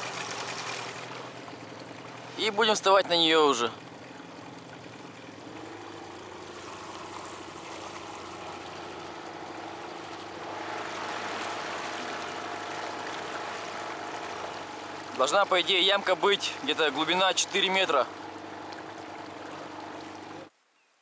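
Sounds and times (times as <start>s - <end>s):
outboard motor running: 0.0s - 20.5s
water washing along hull: 0.0s - 20.5s.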